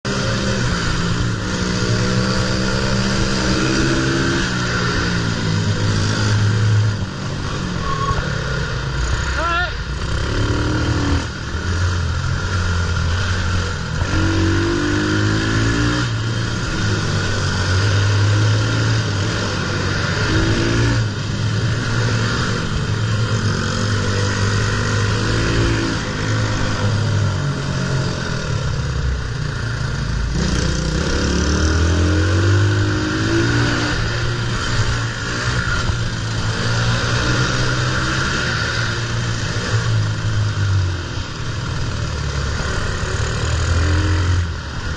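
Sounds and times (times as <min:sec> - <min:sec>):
pit bike engine revving: 0:00.1 - 0:44.9.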